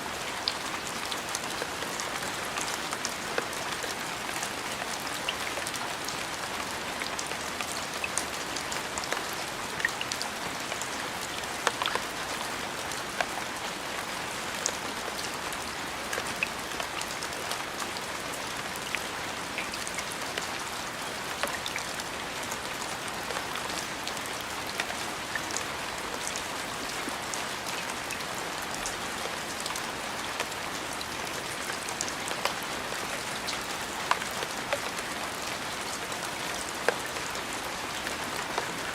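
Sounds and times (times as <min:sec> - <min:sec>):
steady rain hiss: 0:00.0 - 0:38.9
raindrops clicking on a surface: 0:00.4 - 0:20.6, 0:21.2 - 0:38.9.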